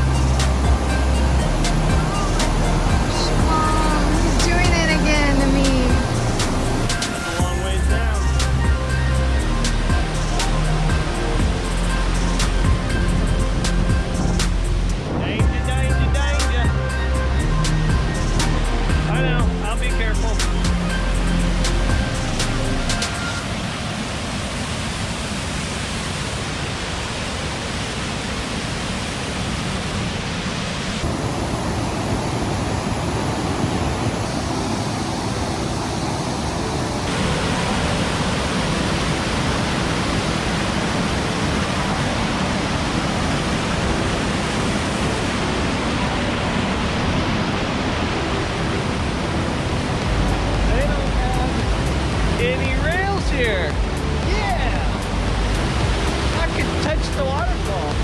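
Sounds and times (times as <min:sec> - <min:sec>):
waterfall rushing: 0:00.0 - 0:17.0, 0:18.4 - 0:58.0.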